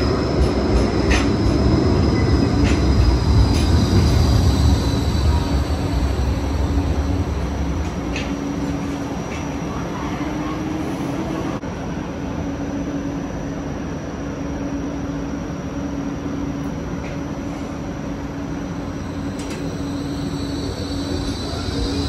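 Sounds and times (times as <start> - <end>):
tram hum and rumble: 0.0 - 22.0.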